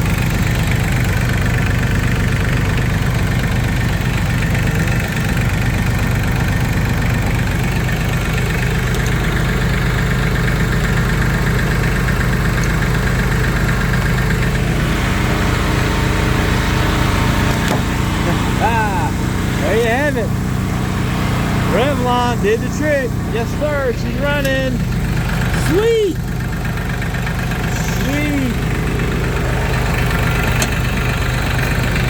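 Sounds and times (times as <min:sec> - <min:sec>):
tractor diesel engine idling: 0:00.0 - 0:32.0.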